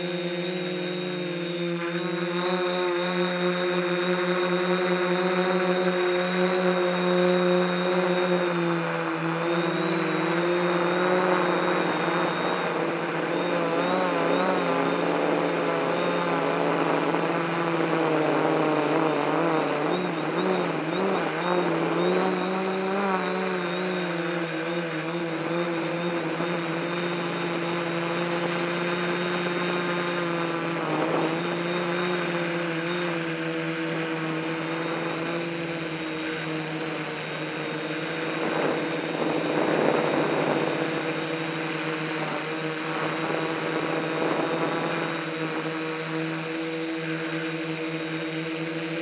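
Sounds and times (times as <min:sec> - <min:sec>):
drone propellers whining: 0:00.0 - 0:49.0.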